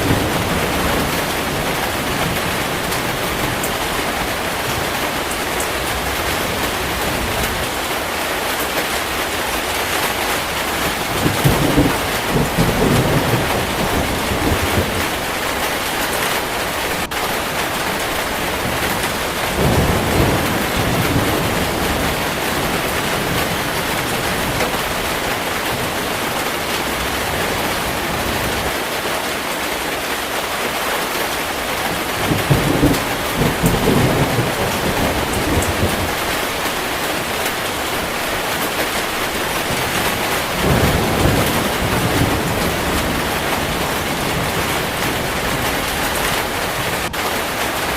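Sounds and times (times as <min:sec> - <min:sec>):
rolling thunder: 0:00.0 - 0:07.8, 0:09.6 - 0:28.7, 0:31.8 - 0:47.6
heavy rain: 0:00.0 - 0:47.9.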